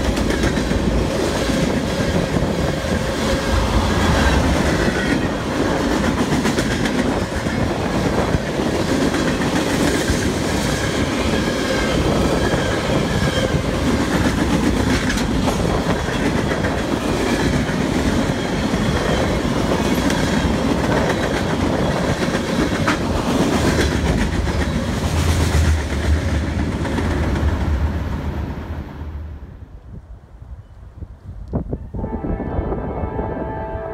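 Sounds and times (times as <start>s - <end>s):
freight train rumbling past: 0.0s - 30.7s.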